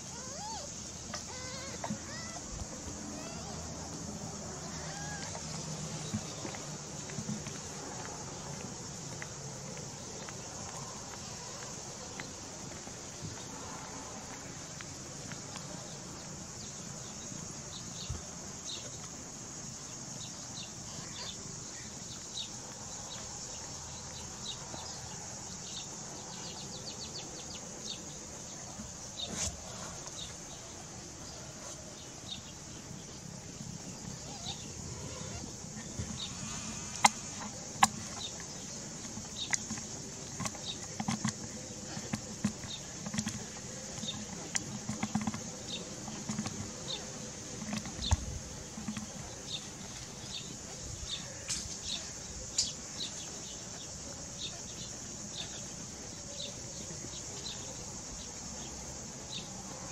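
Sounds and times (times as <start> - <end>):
faint steady hiss: 0.0 - 59.9.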